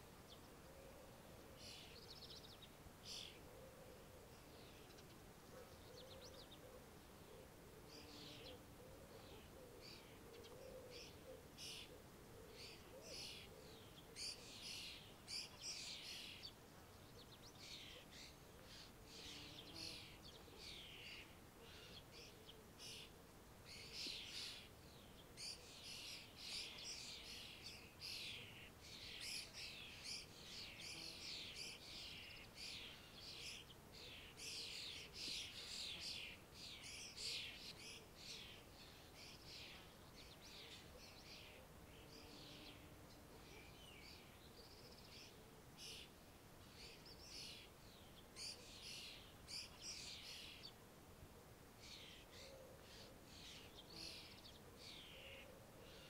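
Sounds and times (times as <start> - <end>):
small birds chirping: 1.6 - 50.8, 51.8 - 56.0.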